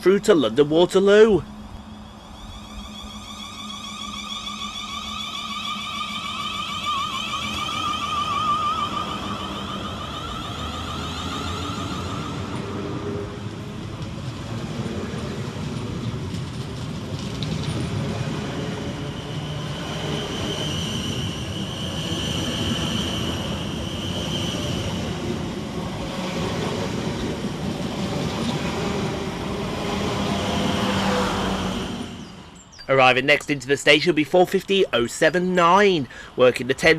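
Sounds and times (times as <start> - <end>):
electric train traction whine: 0.0 - 36.9
wheel and rail noise: 0.0 - 36.9.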